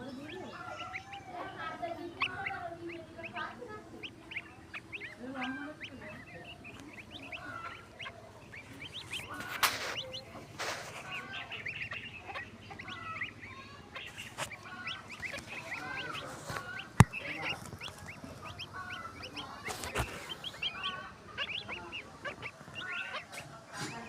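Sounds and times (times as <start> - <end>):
birds chirping: 0.0 - 24.0
swans honking: 0.0 - 24.0.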